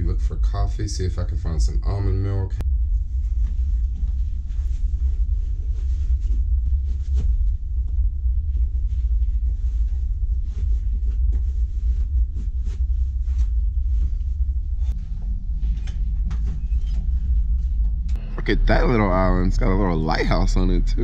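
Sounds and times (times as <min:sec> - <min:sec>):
ferry low rumble: 0:00.0 - 0:21.0.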